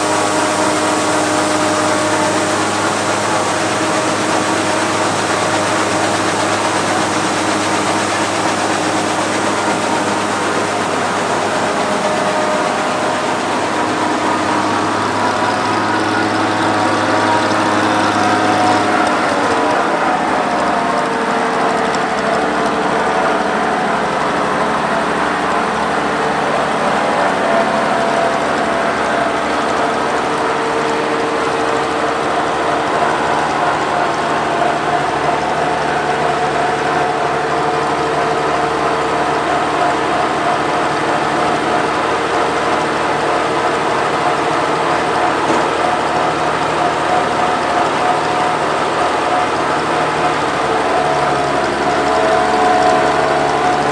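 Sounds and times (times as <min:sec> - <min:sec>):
combine harvester running: 0:00.0 - 0:53.9
mechanical whir of machinery: 0:00.0 - 0:53.9.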